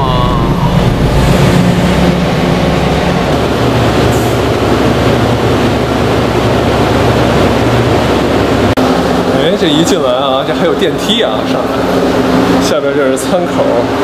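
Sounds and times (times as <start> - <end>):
ferry engine drone: 0.0 - 14.0.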